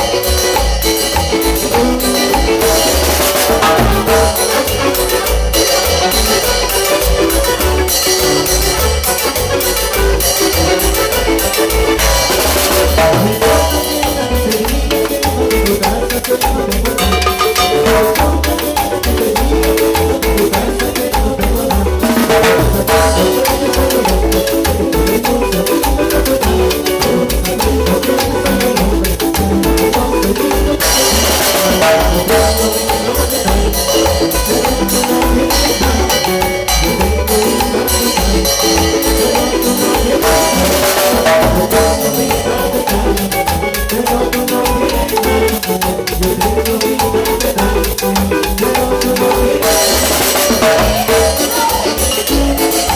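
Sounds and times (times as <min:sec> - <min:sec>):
live band dance music: 0:00.0 - 0:52.9.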